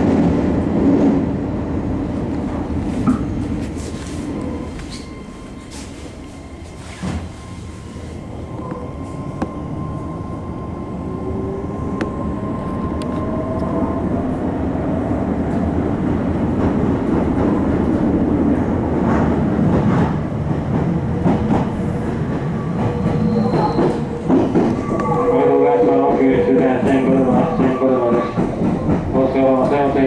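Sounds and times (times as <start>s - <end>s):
train wheels rumbling on rail: 0.0s - 10.4s, 11.2s - 30.0s.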